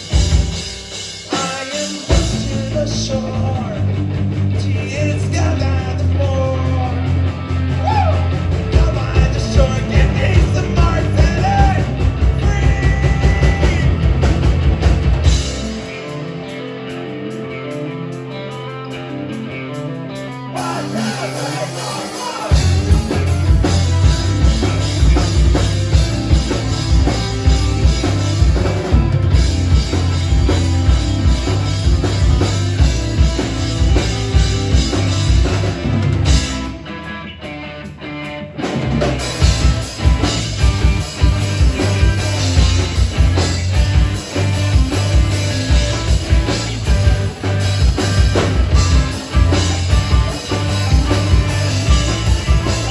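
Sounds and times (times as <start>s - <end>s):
live rock band playing: 0.0s - 52.9s
held bass notes: 2.1s - 16.5s, 20.5s - 36.9s, 38.8s - 52.9s.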